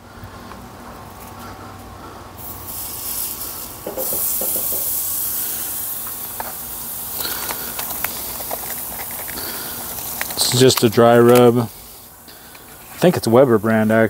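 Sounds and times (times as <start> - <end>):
meat sizzling on a grill: 2.4 - 14.0.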